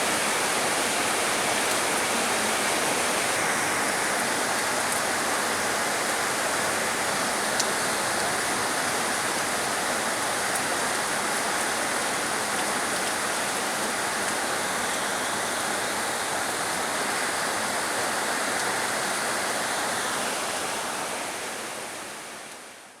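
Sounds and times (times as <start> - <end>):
heavy rain falling: 0.0 - 22.5.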